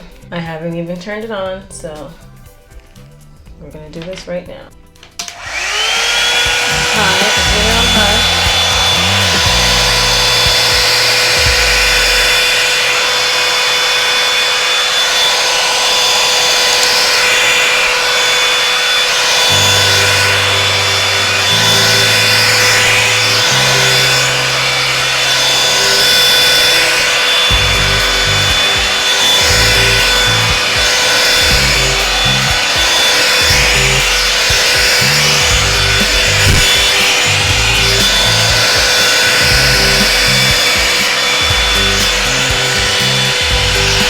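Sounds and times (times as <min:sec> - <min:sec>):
hair dryer running: 0:05.1 - 0:44.0.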